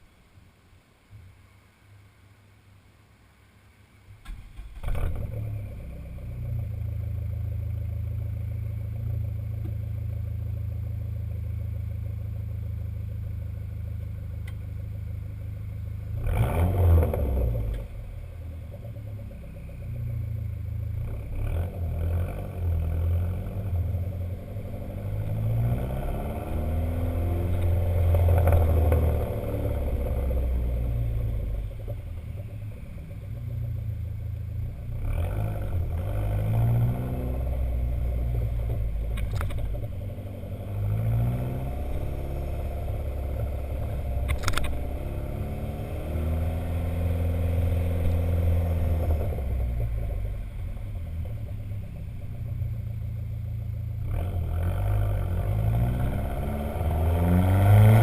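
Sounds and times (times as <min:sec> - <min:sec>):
car engine idling: 0:04.0 - 0:56.3
exhaust crackling: 0:04.2 - 0:58.0
car engine revving: 0:04.6 - 0:58.0.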